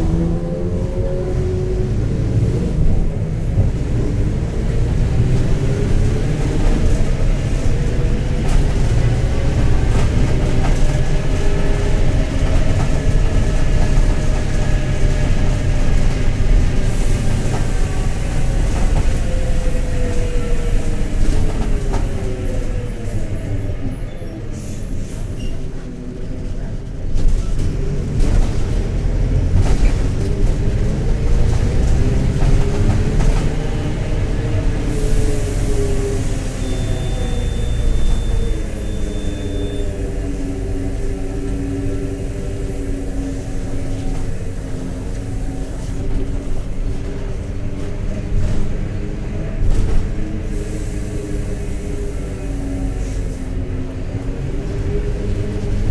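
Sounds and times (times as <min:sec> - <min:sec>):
bus diesel engine: 0:00.0 - 0:55.9.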